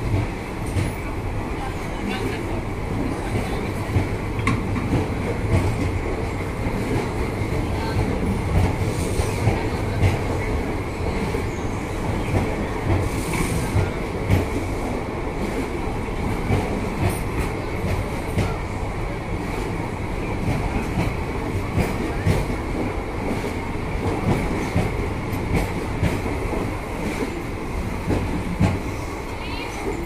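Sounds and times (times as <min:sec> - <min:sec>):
train rumbling past: 0:00.0 - 0:30.0.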